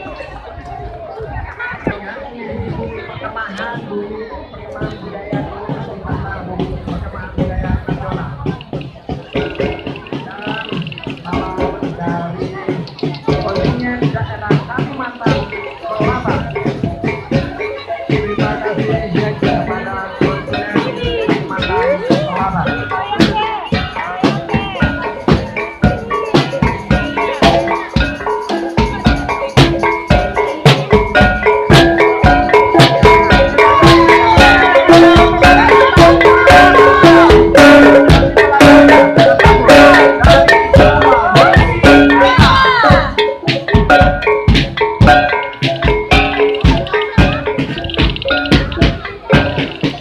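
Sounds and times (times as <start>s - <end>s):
lively drum and percussion music: 0.0s - 50.0s.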